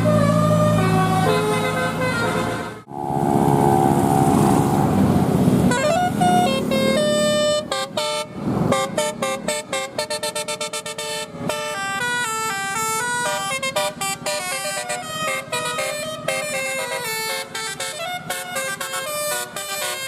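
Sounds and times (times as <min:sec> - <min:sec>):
air horn melody: 0:00.1 - 0:20.0.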